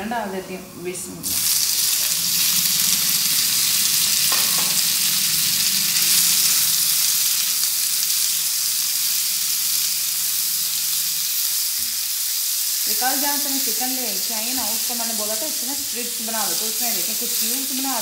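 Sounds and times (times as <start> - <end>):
chicken sizzling in hot oil: 1.2 - 18.0.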